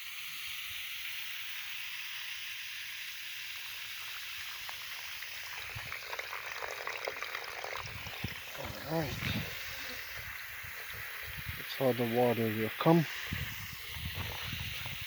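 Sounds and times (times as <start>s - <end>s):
running water hissing: 0.0s - 15.0s
water splashes and trickles: 0.0s - 15.0s.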